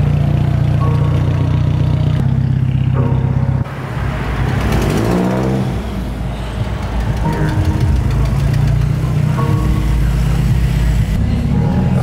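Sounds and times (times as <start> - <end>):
car engine and exhaust running: 0.0 - 12.0
engine revving: 0.0 - 12.0.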